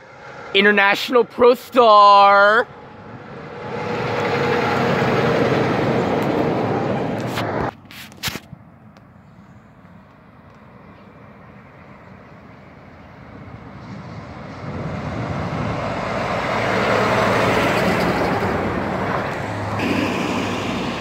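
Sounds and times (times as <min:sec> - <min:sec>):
truck engine drone: 0:00.0 - 0:21.0.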